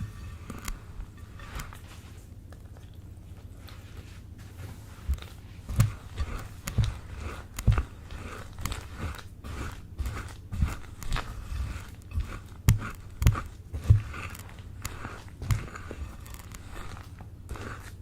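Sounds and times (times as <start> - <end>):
slime squelching: 0.0 - 18.0.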